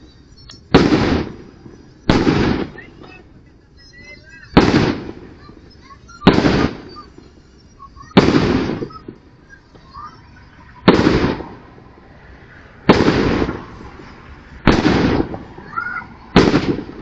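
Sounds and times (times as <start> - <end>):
firework shells booming: 0.0 - 3.4, 4.5 - 10.1, 10.8 - 12.0, 12.8 - 17.0.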